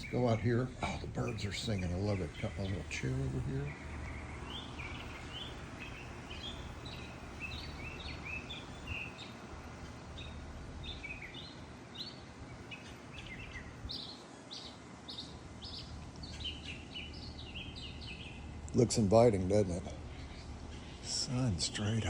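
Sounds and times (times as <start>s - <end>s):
birds chirping: 0.0s - 22.0s
low background noise: 0.0s - 22.0s.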